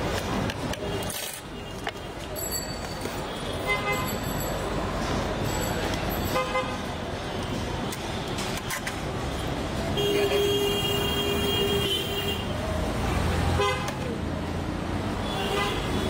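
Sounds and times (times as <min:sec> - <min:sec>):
busy street traffic: 0:00.0 - 0:16.0.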